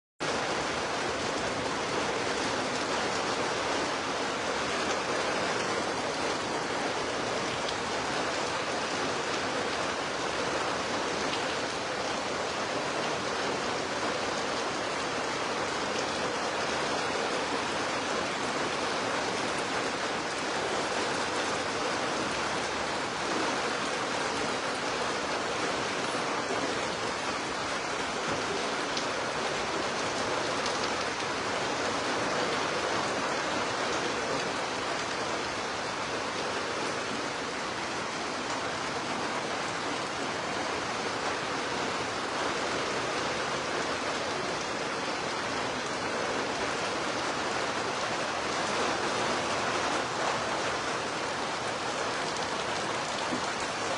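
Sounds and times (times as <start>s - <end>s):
heavy rain pouring: 0.2s - 53.9s.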